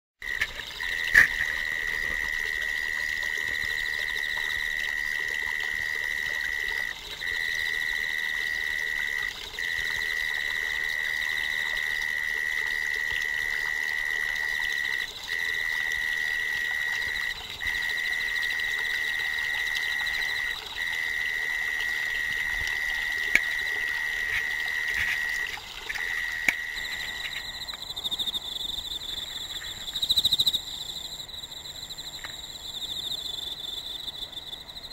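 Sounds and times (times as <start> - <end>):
higher-pitched insect song: 0.2 - 34.9
insect trilling: 0.2 - 34.9.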